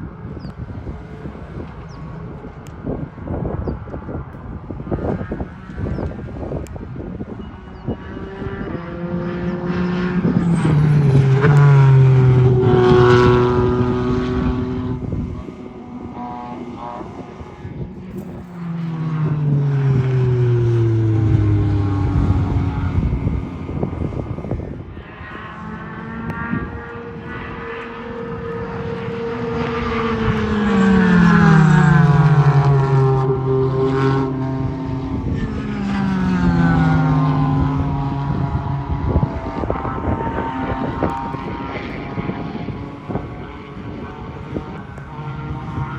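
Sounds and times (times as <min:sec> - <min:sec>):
race cars passing at speed: 0:00.0 - 0:45.9.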